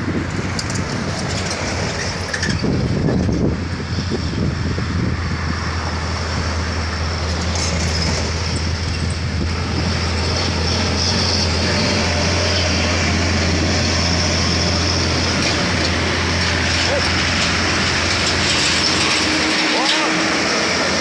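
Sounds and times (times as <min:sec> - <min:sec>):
road noise: 0:00.0 - 0:21.0
truck diesel engine droning: 0:00.0 - 0:21.0.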